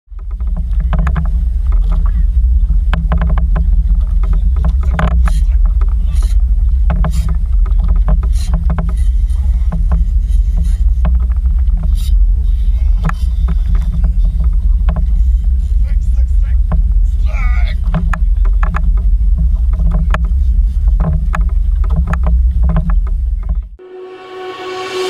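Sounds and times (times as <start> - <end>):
boat engine rumble: 0.1 - 25.0.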